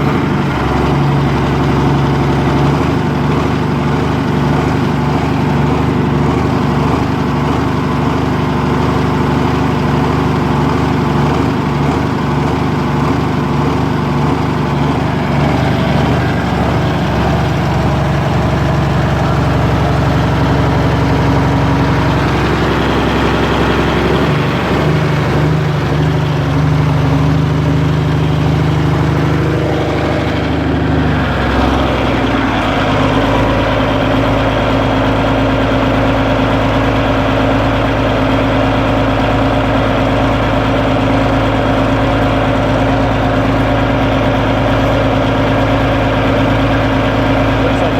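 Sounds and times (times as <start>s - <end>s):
tractor engine idling: 0.0s - 47.9s.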